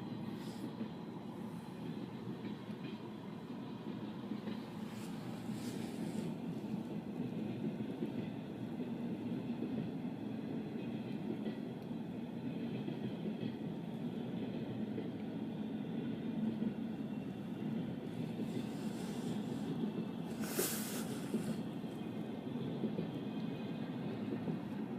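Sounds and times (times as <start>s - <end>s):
train rumbling past: 0.0s - 24.9s.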